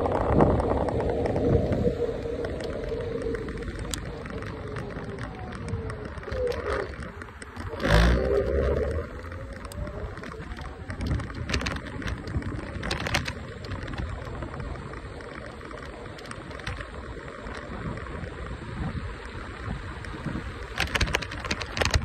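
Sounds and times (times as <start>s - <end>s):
tyres on asphalt: 0.0s - 22.0s
wind rumble on microphone: 0.0s - 22.0s.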